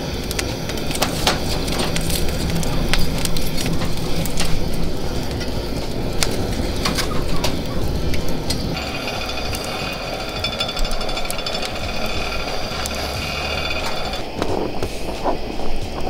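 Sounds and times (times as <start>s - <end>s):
low rush of flame: 0.0s - 16.0s
wood fire crackling and popping: 0.0s - 16.0s.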